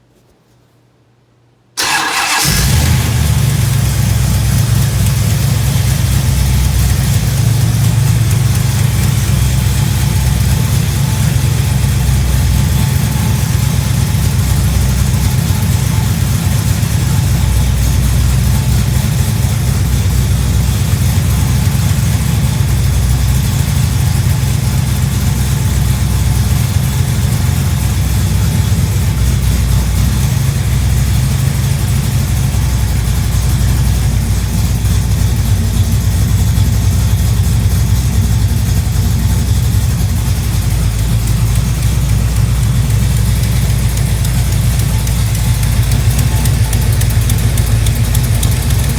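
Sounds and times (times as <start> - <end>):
engine idling: 1.8 - 48.9.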